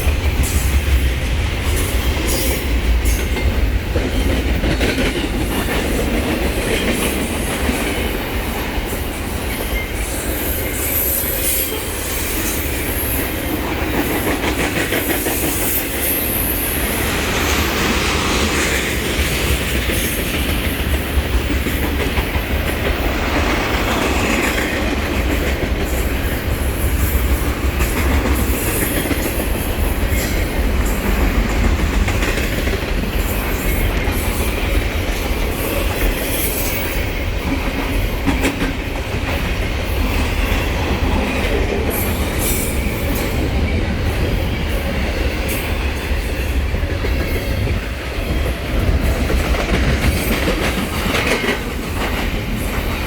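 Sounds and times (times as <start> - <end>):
deep train rumble: 0.0 - 53.0
train wheels clicking on rail joints: 0.0 - 53.0.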